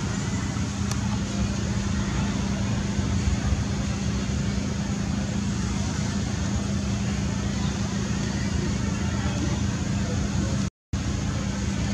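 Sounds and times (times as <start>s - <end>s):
constant low hum: 0.0s - 11.9s
steady background rumble: 0.0s - 11.9s.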